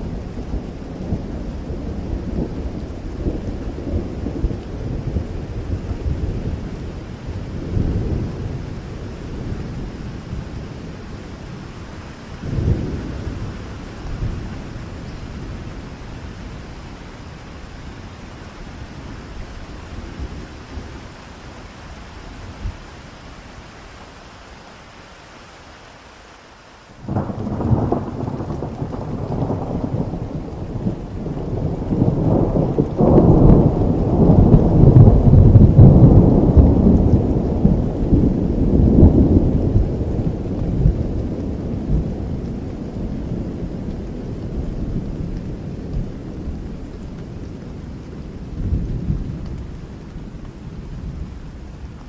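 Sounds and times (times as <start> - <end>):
thunder rumble: 0.0 - 21.2, 27.0 - 52.0
steady rain falling: 0.0 - 52.0.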